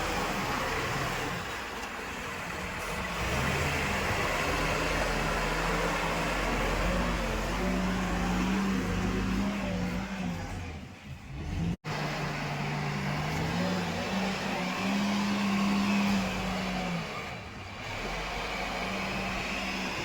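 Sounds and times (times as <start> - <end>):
diesel engine revving under load: 0.0 - 20.0.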